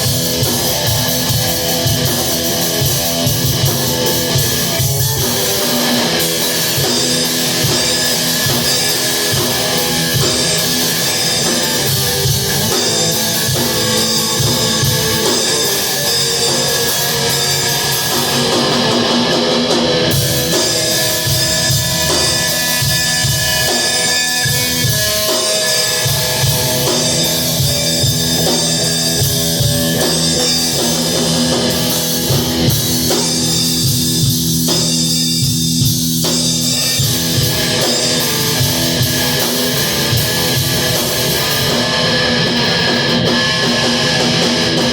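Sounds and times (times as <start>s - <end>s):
drum kit beat: 0.0s - 44.9s
electric guitar chords: 0.0s - 44.9s.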